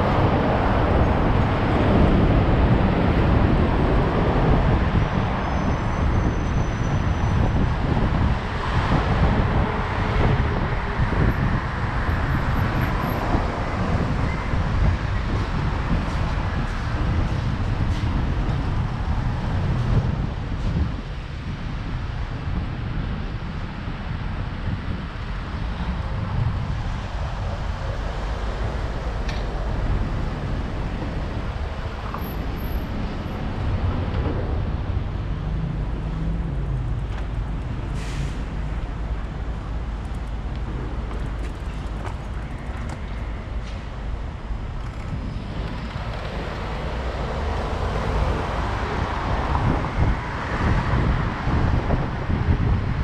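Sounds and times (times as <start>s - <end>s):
city street traffic rumble: 0.0s - 53.0s
wind rushing over camera: 0.0s - 53.0s.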